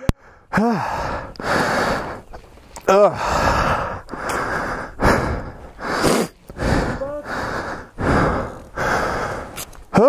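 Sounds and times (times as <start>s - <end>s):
person gasping breaths: 0.1s - 10.0s.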